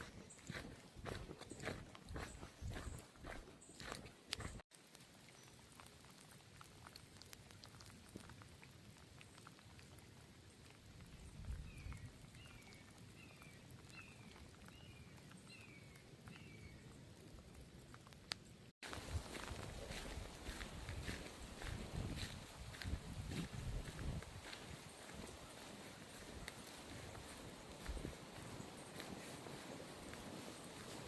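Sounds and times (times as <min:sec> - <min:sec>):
faint light rain: 0:04.3 - 0:31.0.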